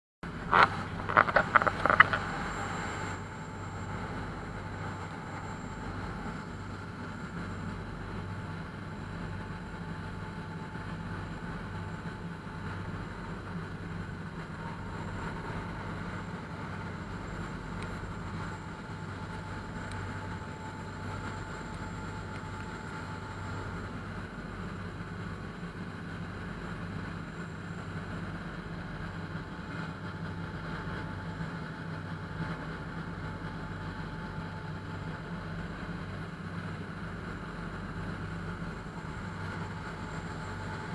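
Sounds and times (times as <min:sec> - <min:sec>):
engine drone: 0:00.2 - 0:40.9
faint steady whining tones: 0:00.2 - 0:40.9.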